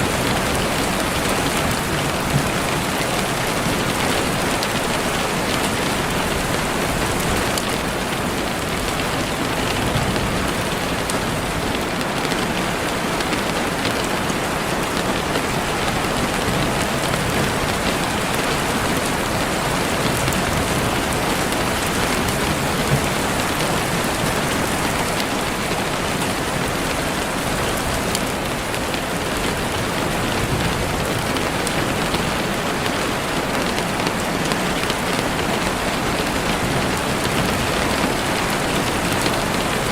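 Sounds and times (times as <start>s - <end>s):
heavy rain on leaves: 0.0s - 39.9s
raindrop patter: 0.0s - 39.9s.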